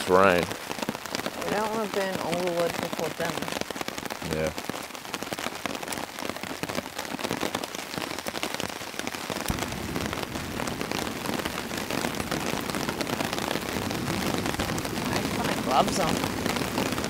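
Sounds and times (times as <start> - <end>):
heavy rain on a tarp: 0.0 - 17.0.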